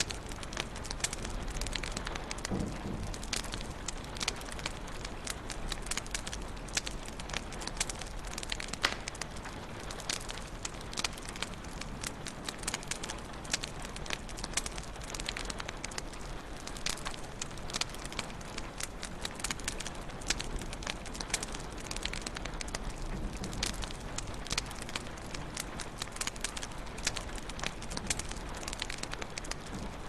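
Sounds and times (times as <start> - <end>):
low hiss of burning: 0.0 - 30.0
wood fire crackling and popping: 0.0 - 30.0.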